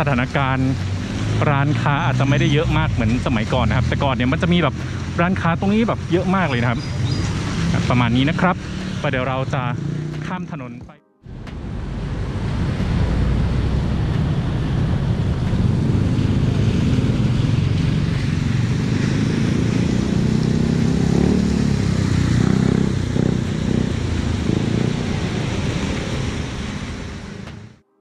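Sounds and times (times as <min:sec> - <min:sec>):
busy street traffic: 0:00.0 - 0:27.8.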